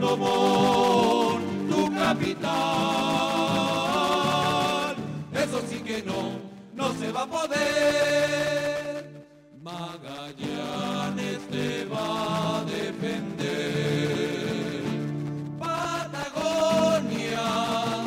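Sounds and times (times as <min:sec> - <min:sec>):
singing with accompaniment: 0:00.0 - 0:18.0.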